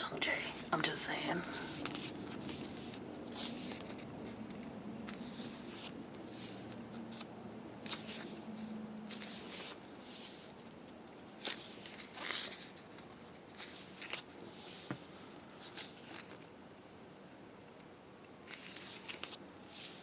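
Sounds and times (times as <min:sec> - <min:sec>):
faint steady hum: 0:00.0 - 0:20.0
paper pages turning: 0:01.5 - 0:16.5, 0:18.4 - 0:20.0.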